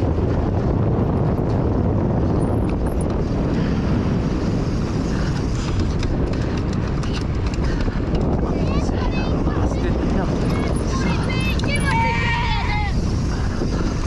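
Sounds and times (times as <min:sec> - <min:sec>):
bike clicks and rattles: 0:00.0 - 0:14.0
tyres rolling over dry dirt: 0:00.0 - 0:14.0
wind buffeting microphone: 0:00.0 - 0:14.0.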